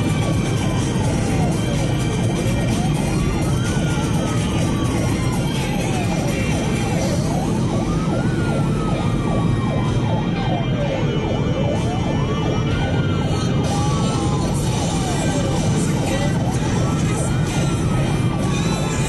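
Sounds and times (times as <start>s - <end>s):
engine and road noise: 0.0s - 19.0s
siren wailing: 0.0s - 19.0s.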